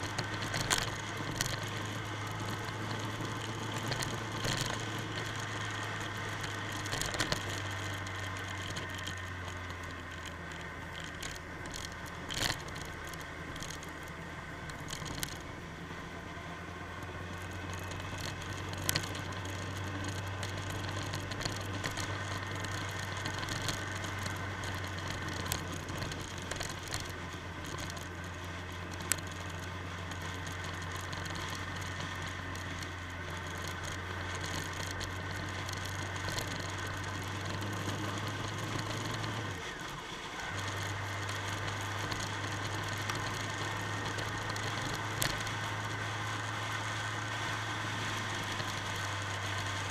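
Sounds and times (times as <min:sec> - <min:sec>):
motorcycle engine drone: 0:00.0 - 0:49.9
road noise: 0:00.0 - 0:49.9
sharp clicks and rattles: 0:00.0 - 0:49.9.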